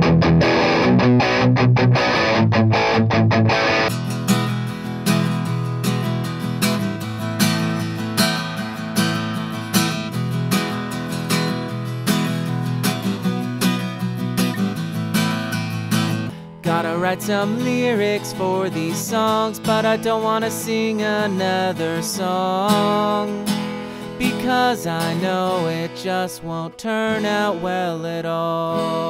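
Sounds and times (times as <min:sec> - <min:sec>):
electric guitar through amp: 0:00.0 - 0:27.9
acoustic guitar strumming chords: 0:00.0 - 0:29.0.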